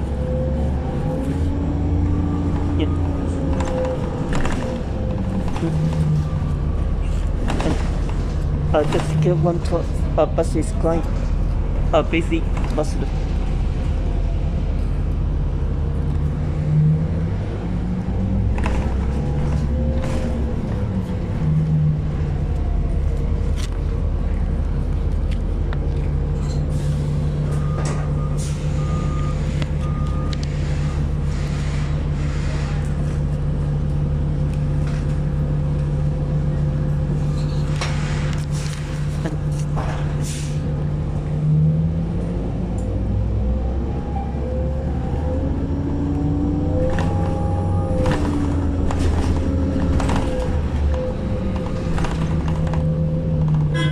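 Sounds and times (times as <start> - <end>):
bus engine droning: 0.0 - 53.9.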